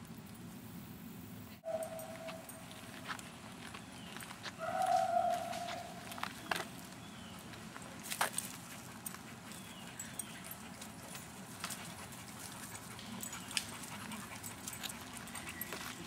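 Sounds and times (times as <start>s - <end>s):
faint dog sounds: 1.5s - 6.7s, 7.4s - 16.0s.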